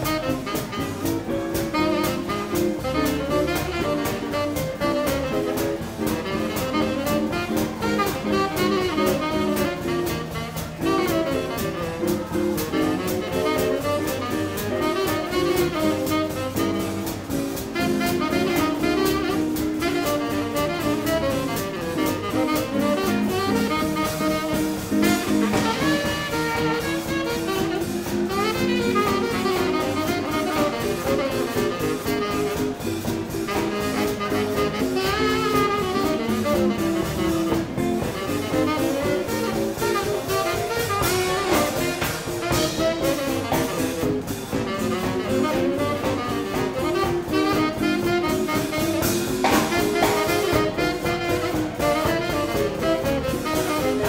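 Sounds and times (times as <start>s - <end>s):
drum kit beat: 0.0s - 54.0s
saxophone: 0.0s - 54.0s
swing band playing: 0.0s - 54.0s.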